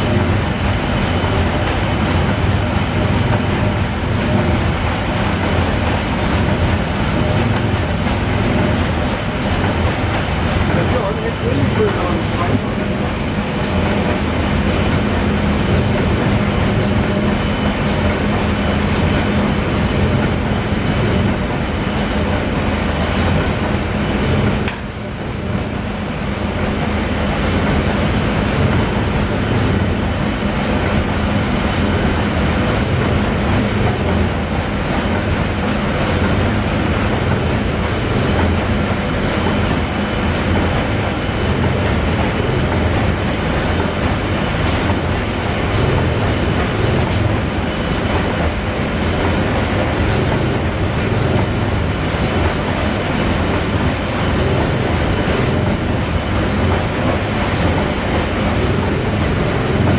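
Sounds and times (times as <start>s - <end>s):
steam engine clattering: 0.0s - 59.9s.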